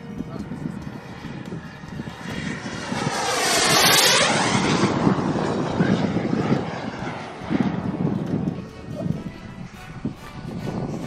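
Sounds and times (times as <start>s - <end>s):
model jet turbine flying past: 0.4s - 11.0s.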